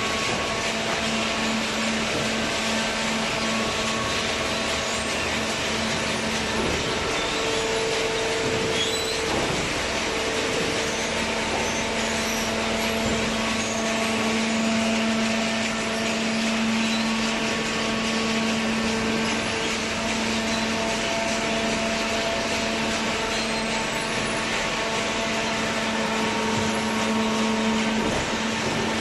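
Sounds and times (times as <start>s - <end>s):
baler machine humming: 0.0s - 29.0s.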